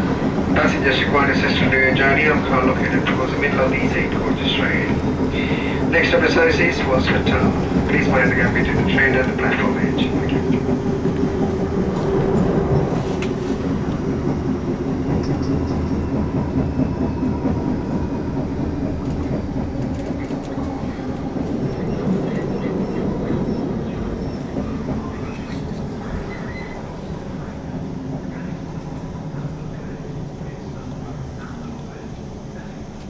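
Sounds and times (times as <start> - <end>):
train traction motors humming: 0.0 - 33.0
train wheels on rails: 0.0 - 33.0.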